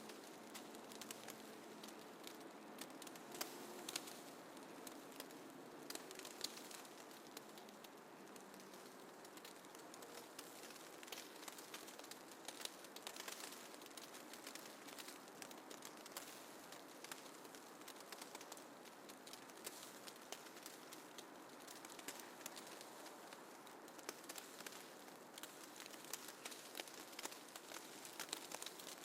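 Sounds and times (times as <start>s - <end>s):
snow ticking and pattering: 0.0s - 29.0s
soft steady hiss: 0.0s - 29.0s.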